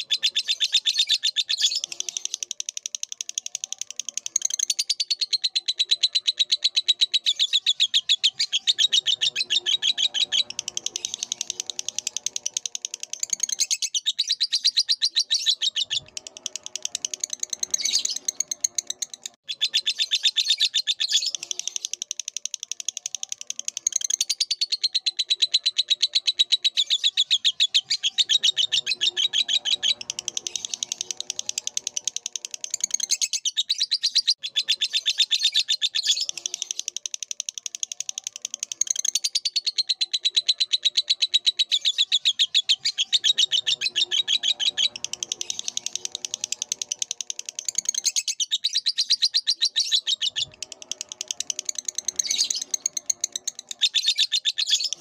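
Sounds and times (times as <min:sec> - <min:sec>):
lovebird chattering trill: 0:00.0 - 0:55.0.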